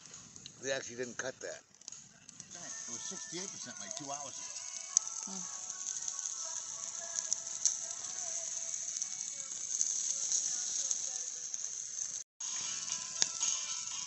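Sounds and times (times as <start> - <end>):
burning wood crackling and popping: 0.0 - 14.0
meat sizzling on a grill: 2.2 - 14.0.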